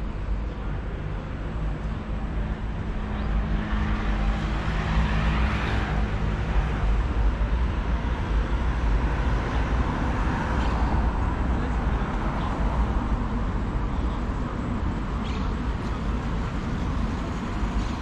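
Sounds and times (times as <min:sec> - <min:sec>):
vehicle engines rumbling: 0:00.0 - 0:18.0.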